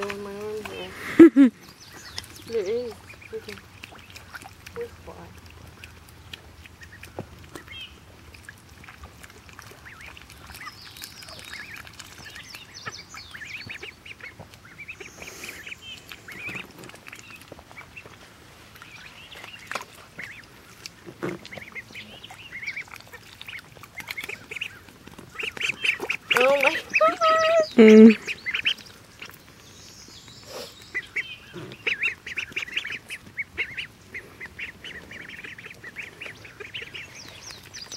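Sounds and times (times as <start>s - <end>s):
bills dabbling in muddy water: 0.0s - 37.9s
ducklings peeping: 0.0s - 37.9s.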